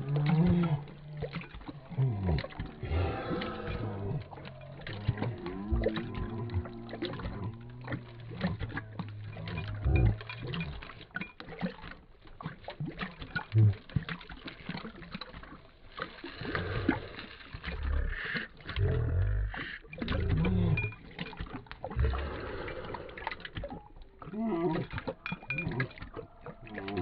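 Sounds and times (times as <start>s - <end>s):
dog lapping water: 0.0s - 27.0s.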